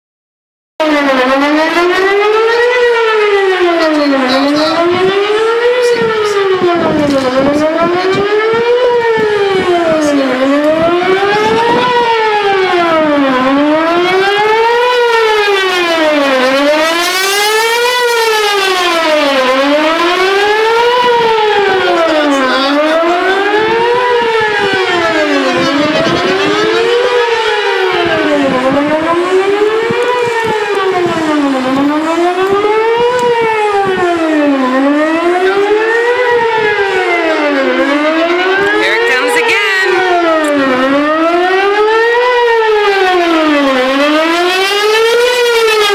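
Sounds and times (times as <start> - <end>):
warning siren wailing: 0.8 - 45.9.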